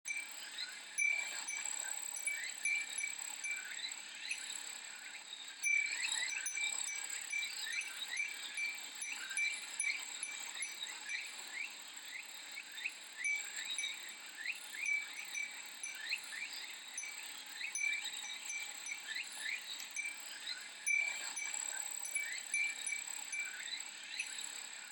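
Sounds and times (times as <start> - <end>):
glass wind chime tinkling: 0.1 - 24.7
cicadas calling: 0.9 - 4.4, 5.6 - 11.3, 13.2 - 24.4.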